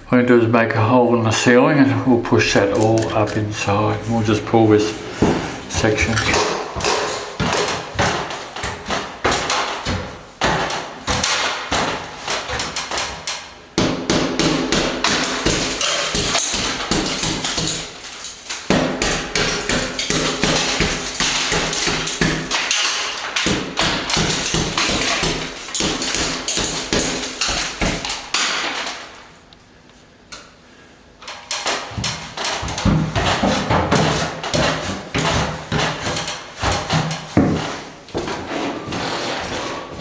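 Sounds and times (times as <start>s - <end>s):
hammer knocking plaster ceiling: 5.1s - 29.0s, 31.5s - 40.0s.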